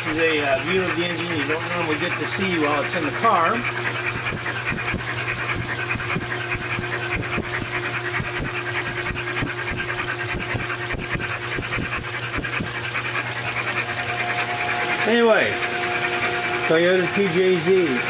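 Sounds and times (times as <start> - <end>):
electric motor hum: 0.0 - 18.0
rapid uneven valvetrain ticking: 0.0 - 18.0.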